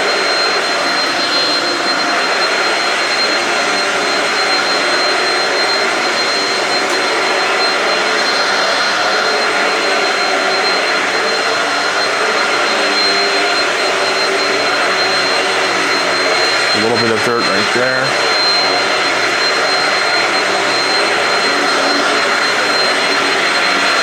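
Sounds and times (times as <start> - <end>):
stick vacuum running over carpet: 0.0 - 24.0.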